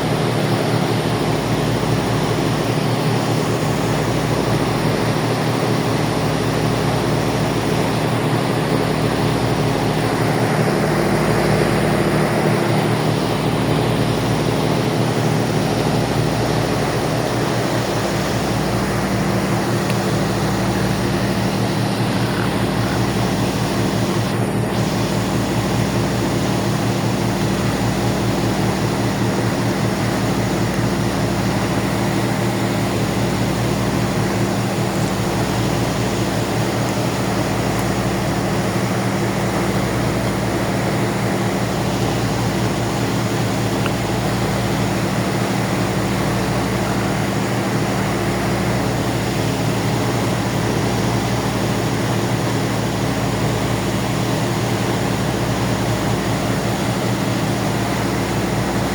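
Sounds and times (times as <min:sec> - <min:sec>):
ferry engines droning: 0:00.0 - 0:58.9.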